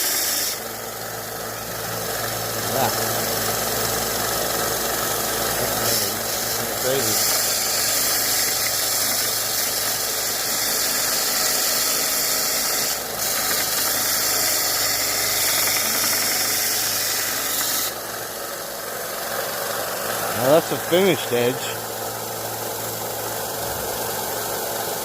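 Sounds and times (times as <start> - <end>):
belt sander abrasive hiss: 0.0 - 25.0
motor hum: 0.0 - 25.0.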